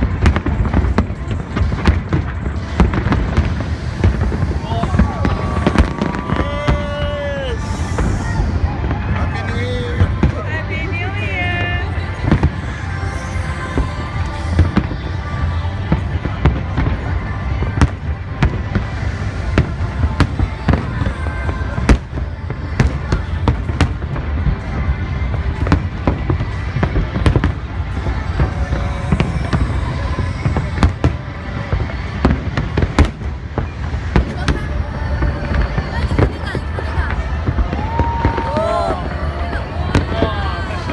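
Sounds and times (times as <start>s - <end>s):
fireworks bangs: 0.0s - 40.9s
low rumble of explosions: 0.0s - 40.9s.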